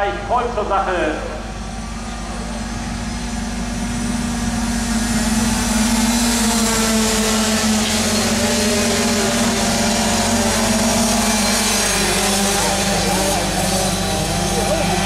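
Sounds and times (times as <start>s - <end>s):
small motorcycle engines buzzing: 1.6s - 15.0s.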